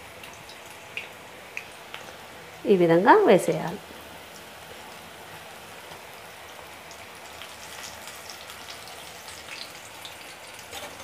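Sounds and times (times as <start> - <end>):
food frying in hot oil: 0.0 - 11.0
small crackles of frying: 0.0 - 11.0.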